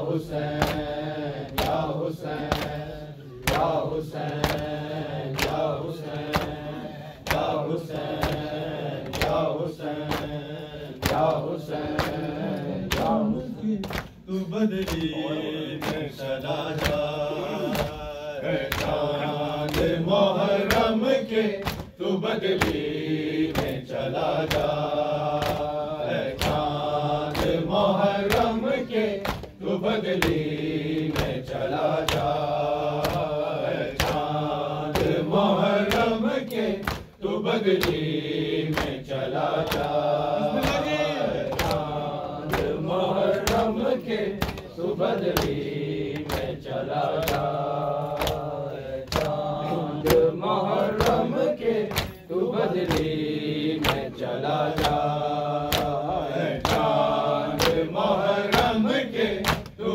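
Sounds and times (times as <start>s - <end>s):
voices chanting a lament: 0.0s - 59.9s
hands slapping chests: 0.3s - 59.9s.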